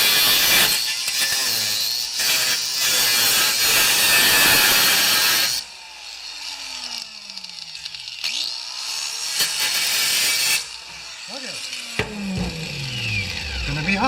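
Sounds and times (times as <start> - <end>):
power tool winding down: 0.0 - 14.0.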